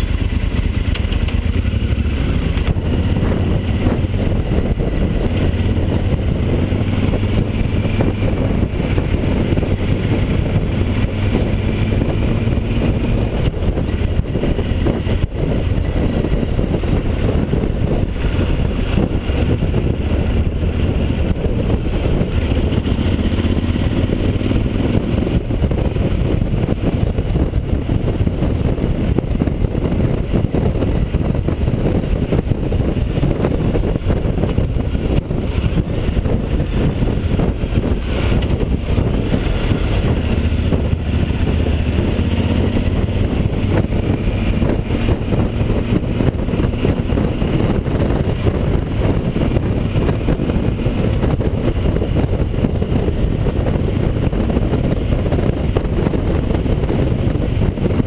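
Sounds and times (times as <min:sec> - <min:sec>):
motorcycle engine running: 0:00.0 - 0:58.0
wind rumble: 0:00.0 - 0:58.0.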